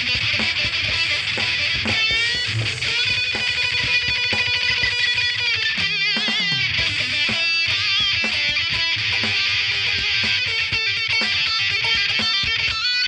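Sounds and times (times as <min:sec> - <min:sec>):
distorted electric guitar lead: 0:00.0 - 0:13.0.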